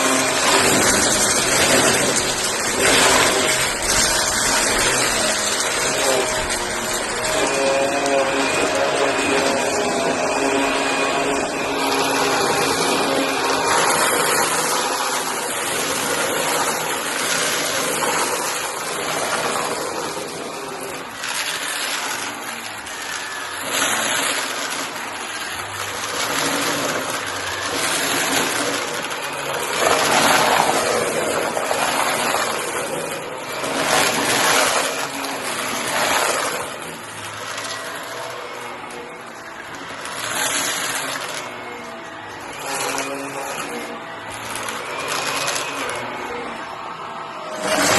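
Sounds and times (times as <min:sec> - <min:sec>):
cardboard bits sucked up nozzle: 0:00.0 - 0:47.9
vacuum cleaner running: 0:00.0 - 0:47.9.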